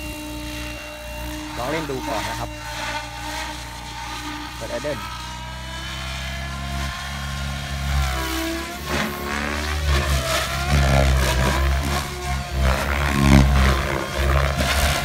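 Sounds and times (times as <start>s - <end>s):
rc helicopter motor and rotor whine: 0.0s - 15.0s.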